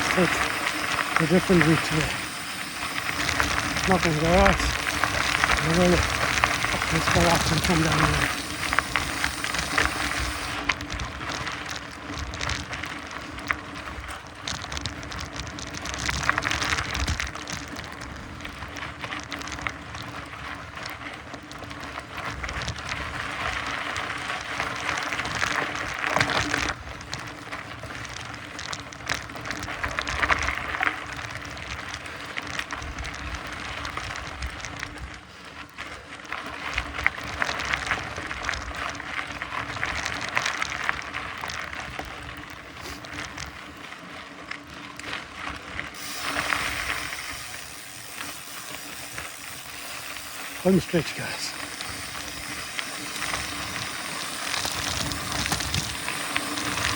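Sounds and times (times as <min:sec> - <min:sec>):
bike clicks and rattles: 0:00.0 - 0:56.9
bike tyres crunching on gravel: 0:00.0 - 0:56.9.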